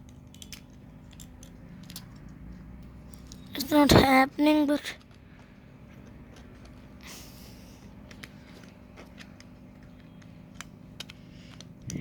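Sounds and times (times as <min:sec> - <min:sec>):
light clicks of plastic parts: 0:00.0 - 0:03.5, 0:04.8 - 0:07.1, 0:07.8 - 0:12.0.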